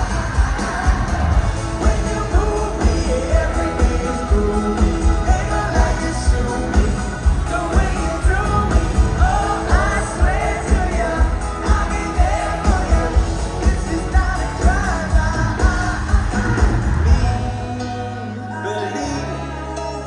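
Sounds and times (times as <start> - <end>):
live pop-rock band: 0.0 - 20.0
person singing: 0.0 - 20.0.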